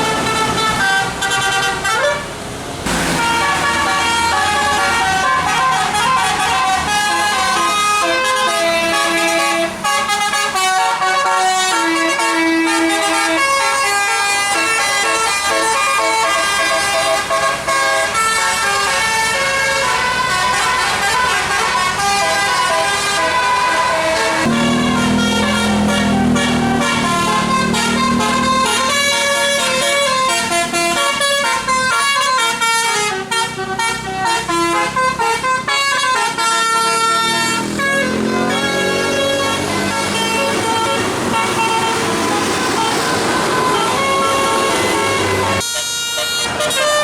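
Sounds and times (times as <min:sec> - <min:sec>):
bus air horn melody: 0:00.0 - 0:47.0.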